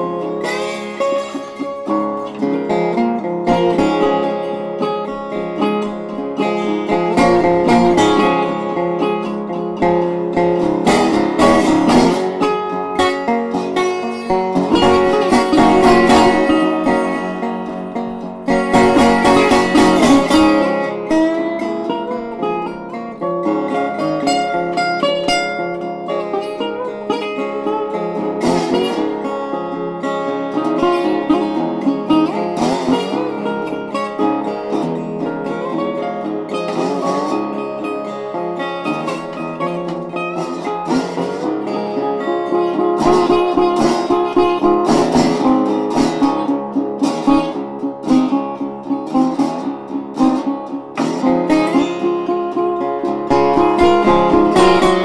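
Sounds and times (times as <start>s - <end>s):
acoustic guitar instrumental: 0.0s - 55.0s.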